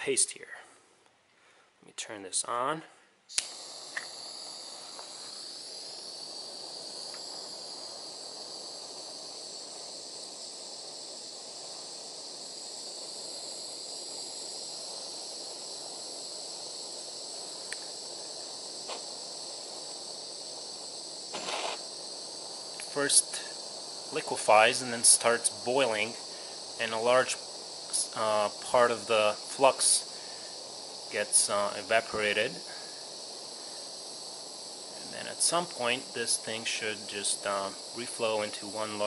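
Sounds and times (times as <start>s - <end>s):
butane torch hissing: 2.3s - 39.0s
burst of noise: 3.3s - 39.0s.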